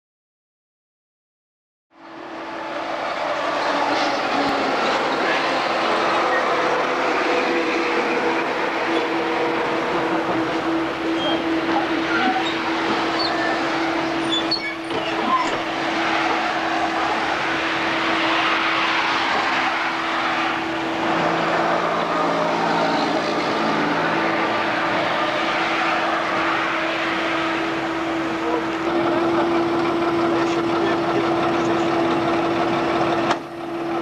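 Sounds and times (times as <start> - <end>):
diesel engine running: 2.0 - 34.0
crowd of passengers moving: 2.2 - 34.0.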